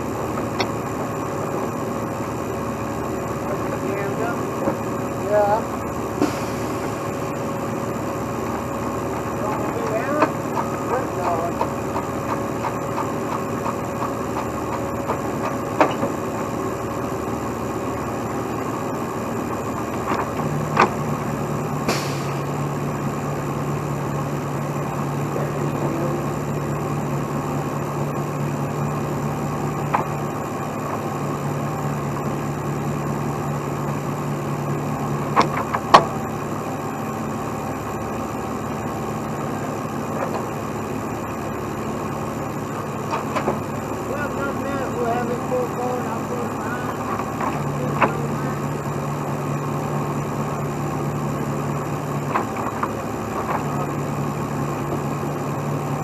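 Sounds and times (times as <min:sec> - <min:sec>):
steady low hum: 0:00.0 - 0:56.0
truck diesel engine idling: 0:00.0 - 0:56.0.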